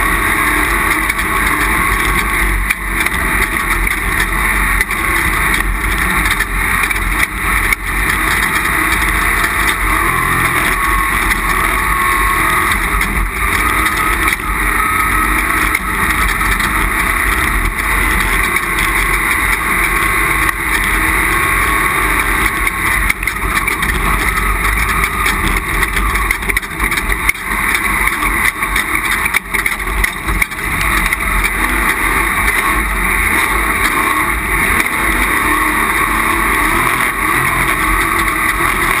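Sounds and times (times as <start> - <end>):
race vehicle engine: 0.0 - 39.0.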